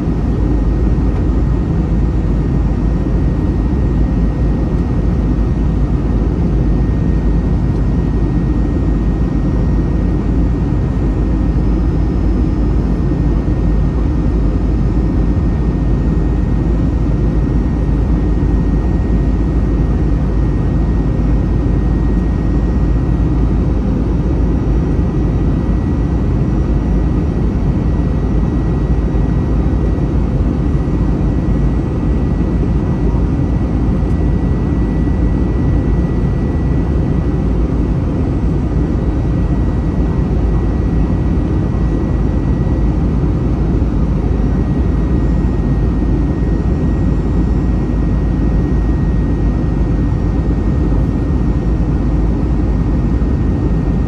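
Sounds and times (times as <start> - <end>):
jet engine roar in cabin: 0.0 - 54.0.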